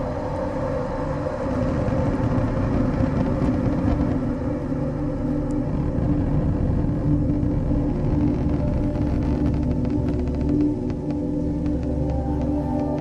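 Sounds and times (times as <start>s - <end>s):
dark industrial ambient drone: 0.0s - 13.0s.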